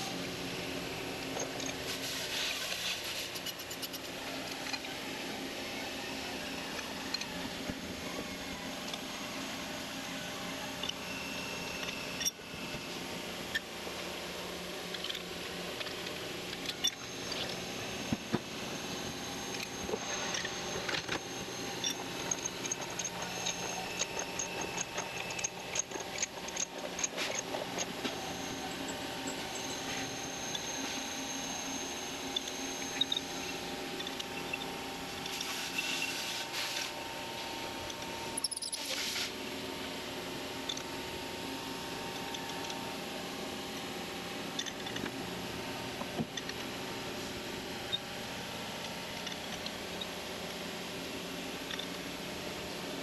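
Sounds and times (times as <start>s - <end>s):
shop machinery humming: 0.0s - 53.0s.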